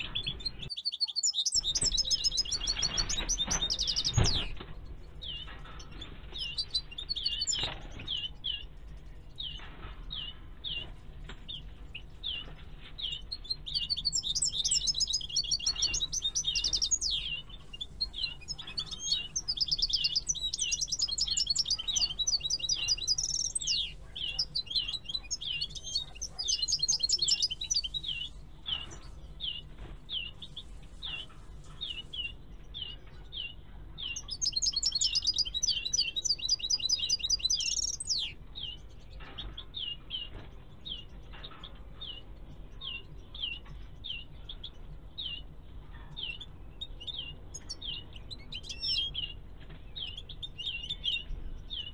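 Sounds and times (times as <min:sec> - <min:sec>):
finches twittering song: 0:00.0 - 0:10.8, 0:11.5 - 0:51.9.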